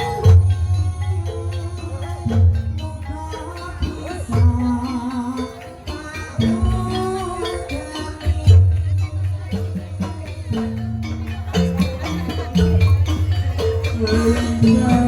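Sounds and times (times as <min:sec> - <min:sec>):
gamelan ensemble: 0:00.0 - 0:15.0.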